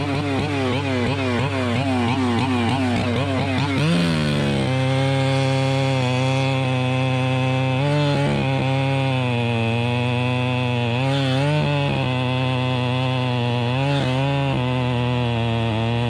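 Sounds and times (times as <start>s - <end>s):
chainsaw cutting: 0.0s - 16.0s.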